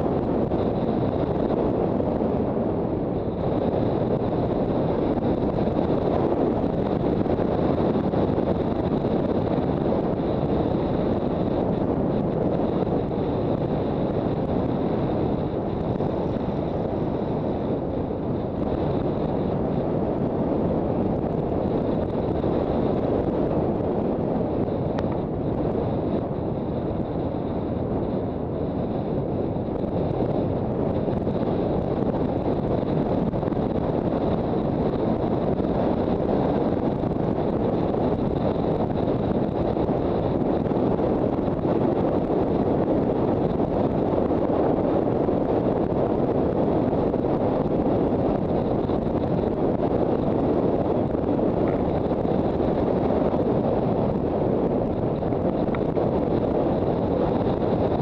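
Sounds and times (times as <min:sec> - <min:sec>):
faint high whine: 0:00.0 - 0:58.0
motorcycle running and road noise: 0:00.0 - 0:58.0
wind rush on microphone: 0:00.0 - 0:58.0.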